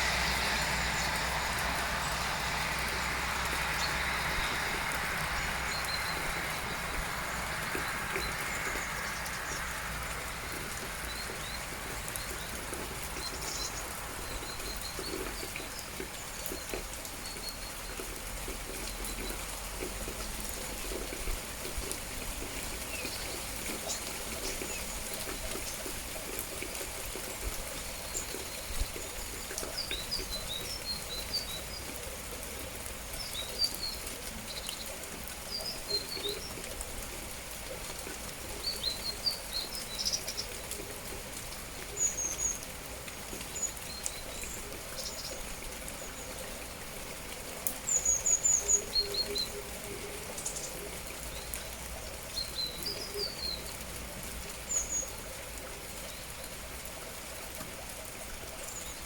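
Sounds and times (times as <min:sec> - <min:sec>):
rain hissing: 0:00.0 - 0:59.0
songbirds chirping: 0:00.0 - 0:59.0.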